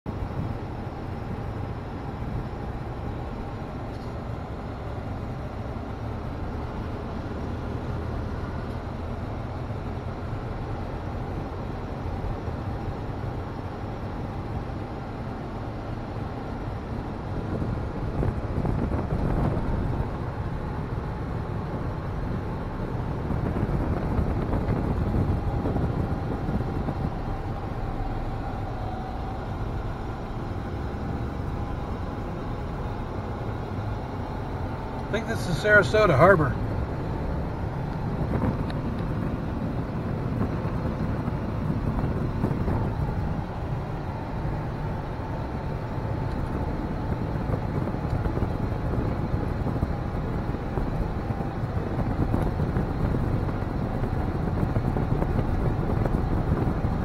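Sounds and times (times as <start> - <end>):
tyre and engine rumble: 0.1 - 57.0.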